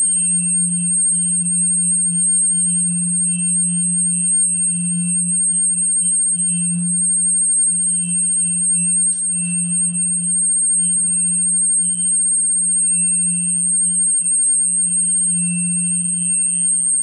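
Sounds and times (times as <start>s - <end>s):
thin high-pitched whine: 0.0s - 17.0s.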